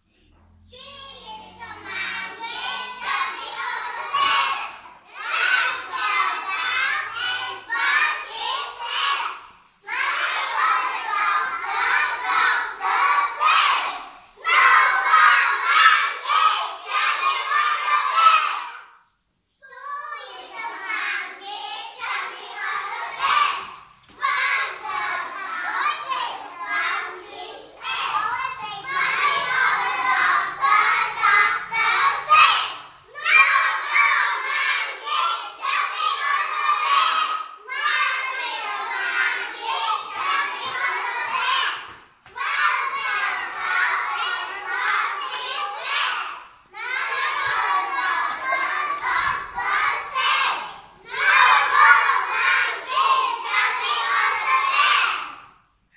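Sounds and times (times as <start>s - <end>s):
children calling out in chorus: 0.5s - 19.0s, 19.6s - 55.6s.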